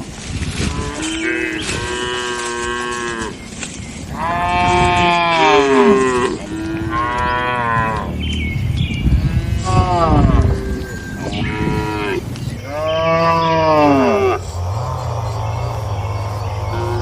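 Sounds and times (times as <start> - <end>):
cattle mooing: 0.7 - 3.4, 4.1 - 8.3, 9.2 - 15.8, 16.6 - 17.0.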